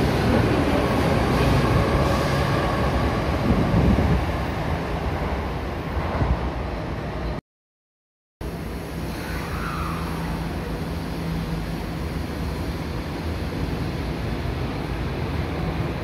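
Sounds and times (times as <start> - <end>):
subway train wheels on rail: 0.0 - 7.4, 8.4 - 16.0.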